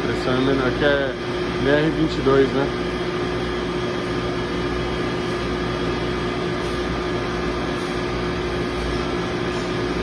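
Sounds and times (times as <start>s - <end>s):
water chiller humming: 0.0s - 10.0s.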